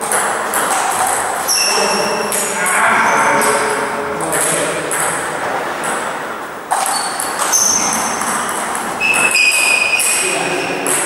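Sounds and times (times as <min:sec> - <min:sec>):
table tennis balls clicking: 0:00.0 - 0:11.0.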